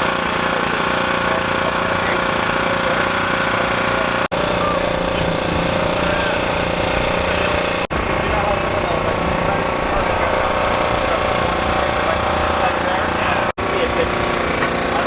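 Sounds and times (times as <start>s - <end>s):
engine running: 0.0s - 15.0s
faint voices: 0.0s - 15.0s.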